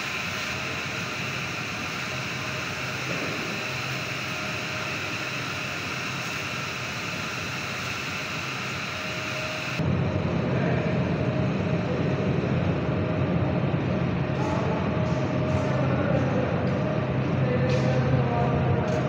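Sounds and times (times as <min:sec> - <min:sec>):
deep machinery rumble: 0:00.0 - 0:19.0
machinery drone with hiss and hum: 0:00.0 - 0:19.0.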